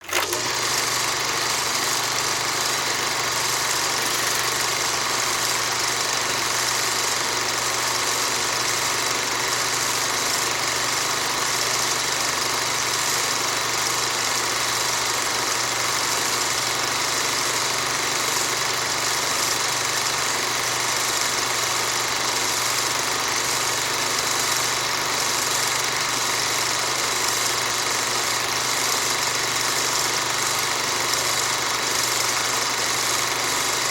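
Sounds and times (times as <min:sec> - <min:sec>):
film projector whirring and rattling: 0:00.0 - 0:33.9.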